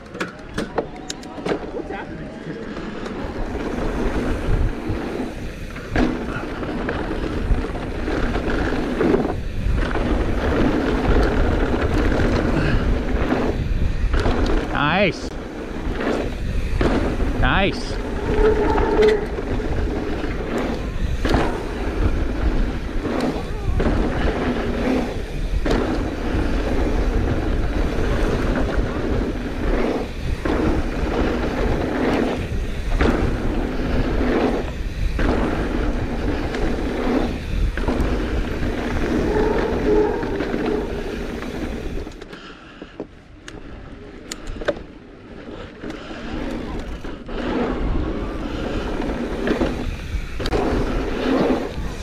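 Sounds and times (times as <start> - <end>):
bike tyres rolling on dirt: 0.0 - 52.0
wind rushing over microphone: 2.6 - 42.2, 45.6 - 52.0.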